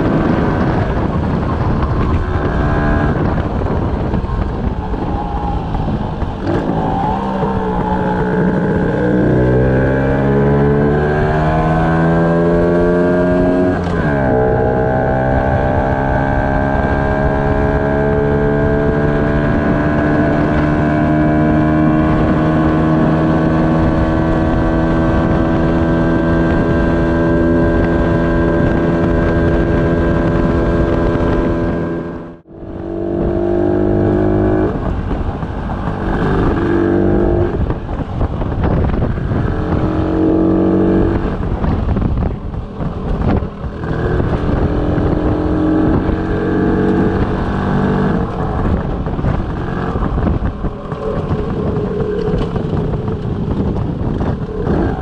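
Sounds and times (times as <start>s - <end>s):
two-stroke motorcycle engine revving: 6.4s - 55.0s.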